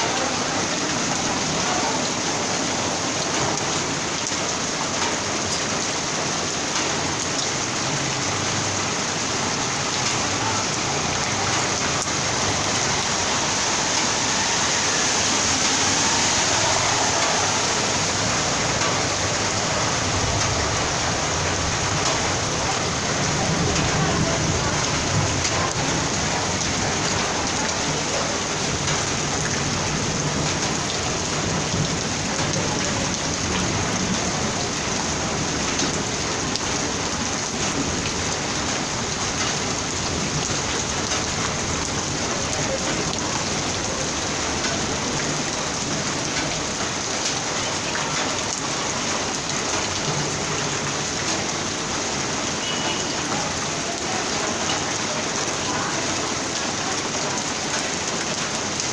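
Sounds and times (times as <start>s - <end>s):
heavy rain drumming: 0.0s - 58.9s.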